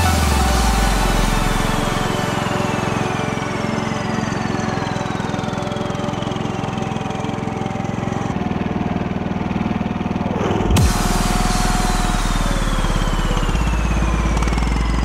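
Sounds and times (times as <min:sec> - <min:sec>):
faint whine falling in pitch: 0:00.0 - 0:15.0
garden tractor engine running: 0:00.0 - 0:15.0.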